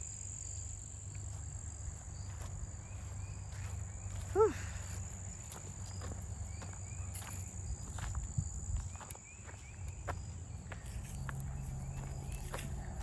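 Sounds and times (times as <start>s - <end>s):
insects trilling: 0.0s - 13.0s
footsteps on a trail: 1.0s - 13.0s.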